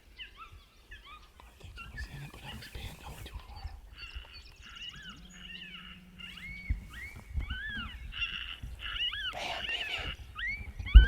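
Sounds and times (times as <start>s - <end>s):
coyote yips and howls: 0.2s - 2.0s, 3.9s - 11.0s.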